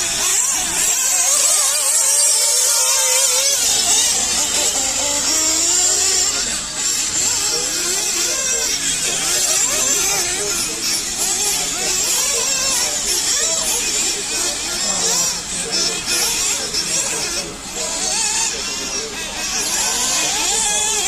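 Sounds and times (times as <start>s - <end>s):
model truck motors whining: 0.0s - 21.0s.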